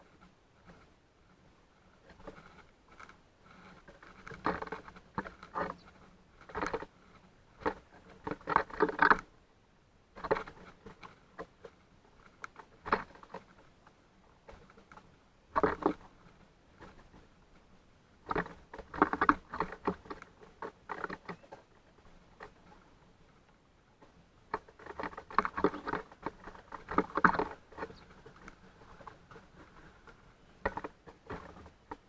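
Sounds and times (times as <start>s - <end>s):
birds pecking at seed feeder: 2.0s - 9.3s, 10.2s - 17.3s, 18.2s - 23.0s, 24.0s - 32.0s.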